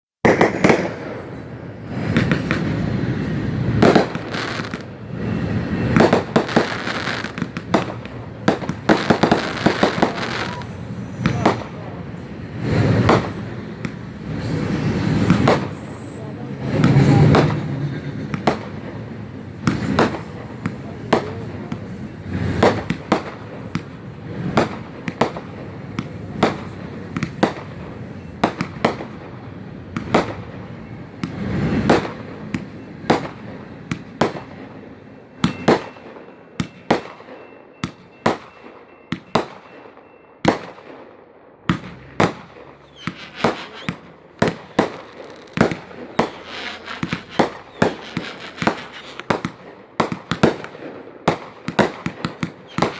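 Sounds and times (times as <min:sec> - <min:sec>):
fireworks bangs and cracks: 0:00.2 - 0:52.9.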